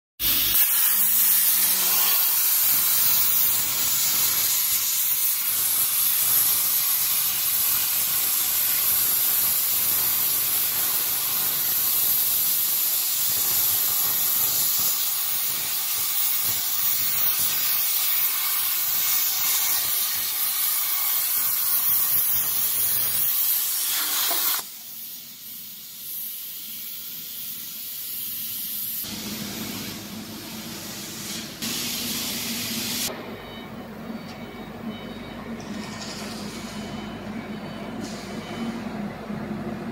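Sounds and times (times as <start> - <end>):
plasma torch hissing: 0.2 - 33.1.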